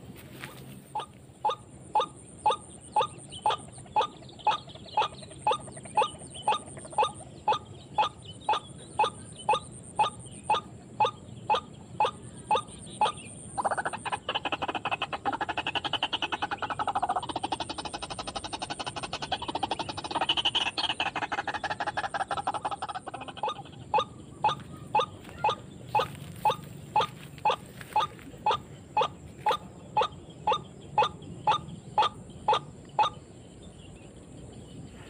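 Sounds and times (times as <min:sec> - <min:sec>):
bird calls: 0:00.0 - 0:35.0.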